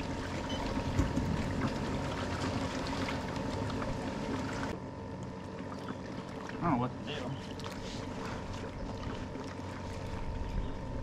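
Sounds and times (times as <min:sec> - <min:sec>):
steady low hum: 0:00.0 - 0:11.0
water lapping against boat hull: 0:00.0 - 0:11.0.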